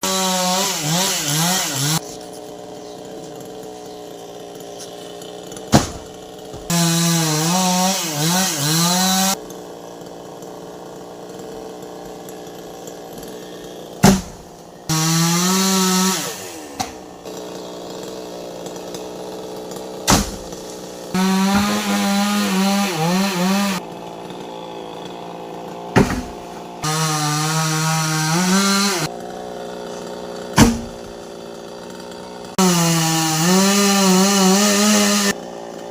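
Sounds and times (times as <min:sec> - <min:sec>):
chainsaw revving and idling: 0:00.0 - 0:35.9.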